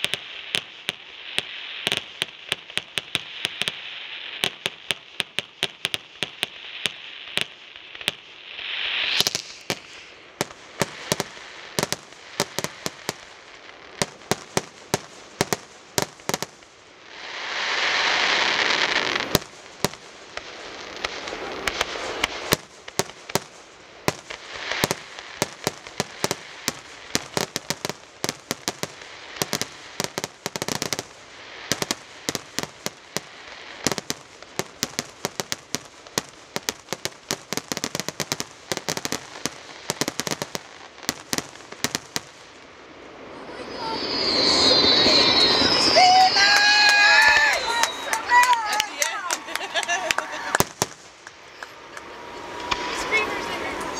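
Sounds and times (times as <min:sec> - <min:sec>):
fireworks bangs and crackles: 0:00.0 - 0:53.9
loud rushing hiss: 0:06.5 - 0:13.6, 0:14.4 - 0:34.4, 0:35.0 - 0:48.4, 0:49.6 - 0:53.9.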